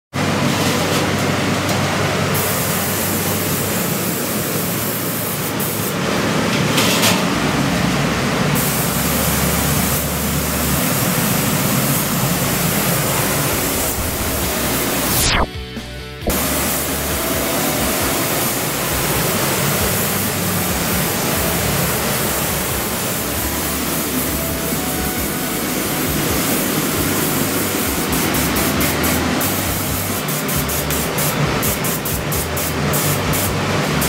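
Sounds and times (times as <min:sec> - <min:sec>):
booth air rushing: 0:00.2 - 0:34.0
paint spray gun hissing: 0:02.4 - 0:06.0, 0:08.6 - 0:15.4, 0:16.2 - 0:34.0.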